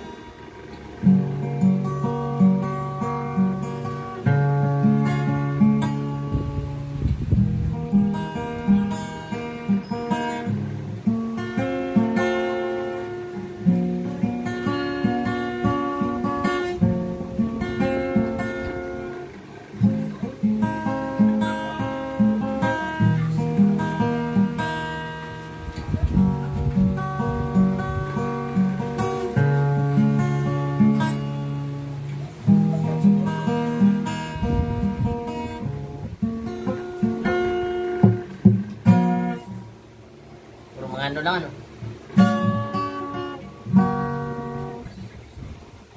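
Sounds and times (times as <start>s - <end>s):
acoustic guitar chords: 0.0s - 45.9s.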